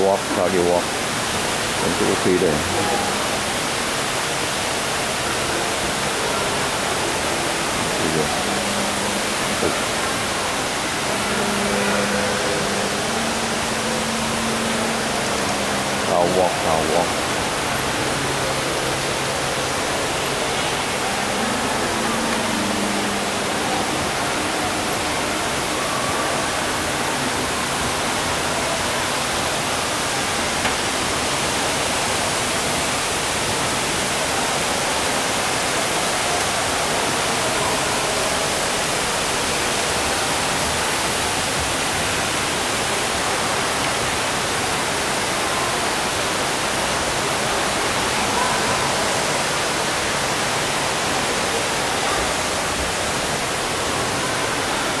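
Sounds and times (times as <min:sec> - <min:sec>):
rushing water hiss: 0:00.0 - 0:55.0.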